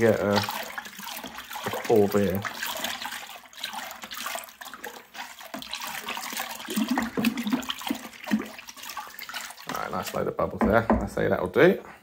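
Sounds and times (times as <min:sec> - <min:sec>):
liquid sloshing while stirred: 0:00.0 - 0:10.8.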